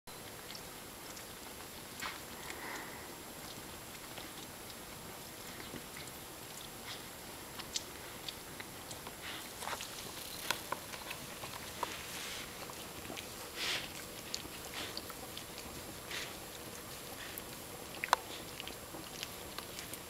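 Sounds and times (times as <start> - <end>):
dog licking and nibbling: 0.2 - 20.0.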